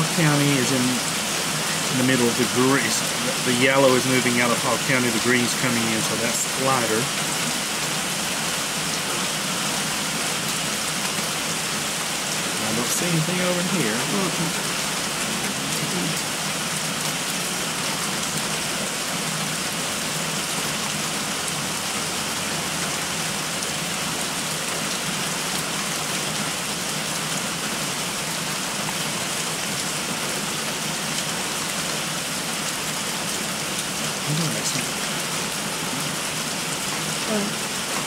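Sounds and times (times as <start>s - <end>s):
heavy rain on trees: 0.0s - 38.0s.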